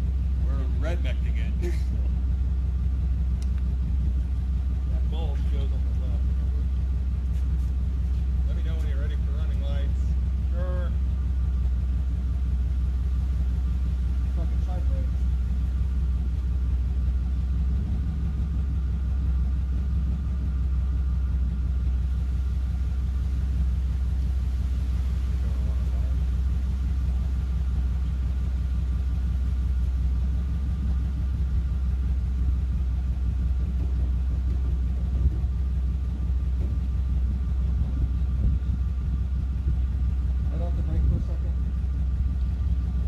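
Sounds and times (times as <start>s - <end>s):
faint constant whine: 0.0s - 43.0s
truck engine idling: 0.0s - 43.0s.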